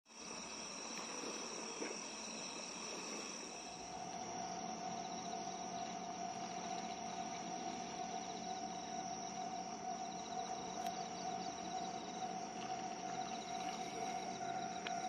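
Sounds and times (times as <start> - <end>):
crickets chirping: 0.1 - 15.0
steady ringing tone: 2.1 - 15.0.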